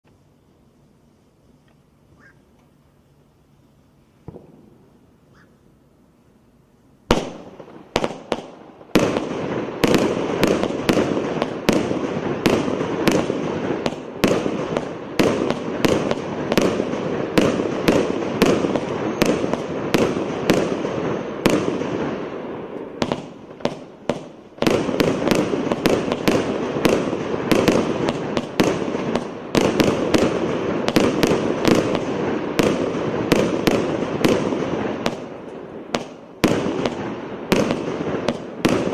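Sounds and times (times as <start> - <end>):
fireworks launching and crackling: 1.6 - 5.2, 6.9 - 38.9.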